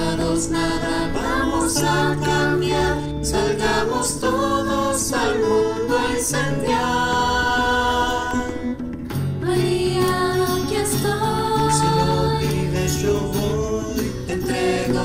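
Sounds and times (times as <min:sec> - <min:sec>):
acoustic guitar: 0:00.0 - 0:15.0
group singing worship song: 0:00.0 - 0:15.0.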